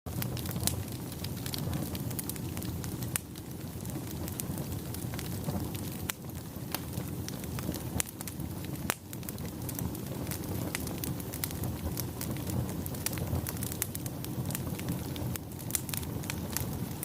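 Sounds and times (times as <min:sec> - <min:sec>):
low fire rumble: 0:00.1 - 0:17.0
wood fire crackling and popping: 0:00.1 - 0:17.0.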